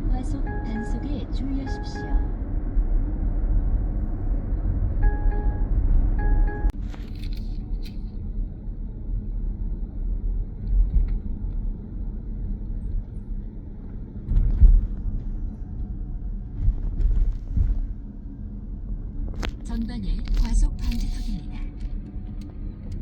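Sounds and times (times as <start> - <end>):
road and tyre rumble in car: 0.0 - 23.0.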